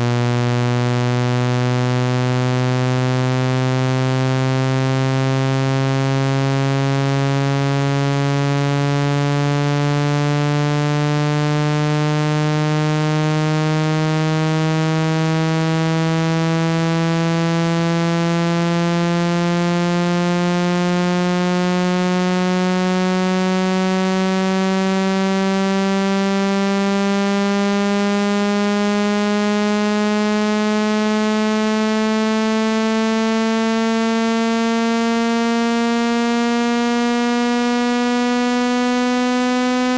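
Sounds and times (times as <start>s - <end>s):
buzzy tone rising in pitch: 0.0s - 39.9s.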